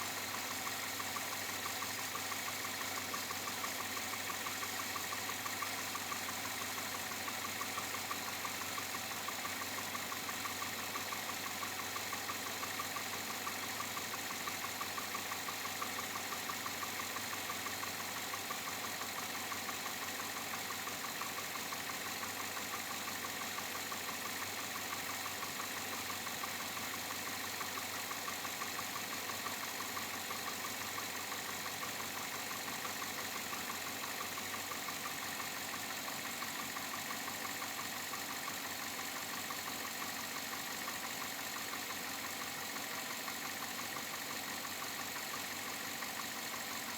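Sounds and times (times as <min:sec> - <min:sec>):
engine idling with knock: 0:00.0 - 0:46.9.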